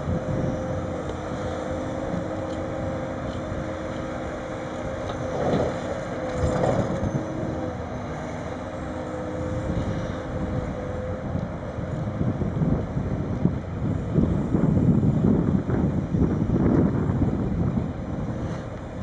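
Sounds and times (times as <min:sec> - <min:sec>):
engine and hydraulics whining: 0:00.0 - 0:19.0.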